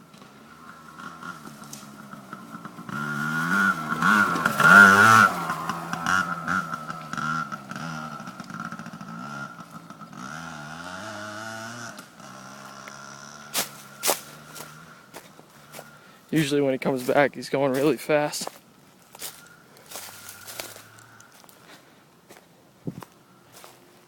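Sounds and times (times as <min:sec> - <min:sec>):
dirt bike engine revving: 0:00.0 - 0:21.8.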